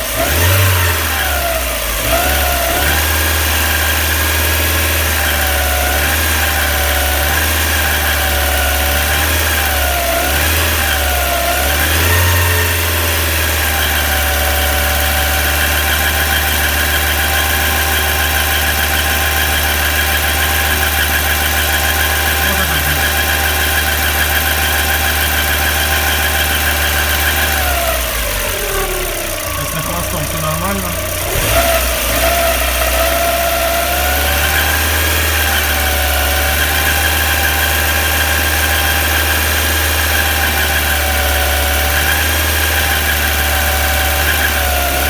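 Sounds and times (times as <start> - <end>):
car engine at raised revs: 0.0 - 45.0.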